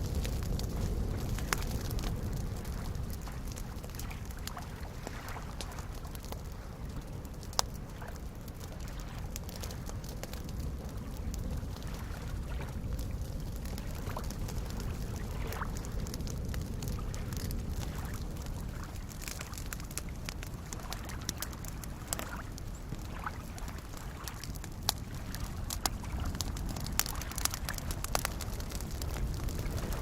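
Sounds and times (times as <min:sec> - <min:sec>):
campfire crackling and popping: 0:00.0 - 0:30.0
lake waves lapping: 0:00.2 - 0:16.1, 0:16.7 - 0:30.0.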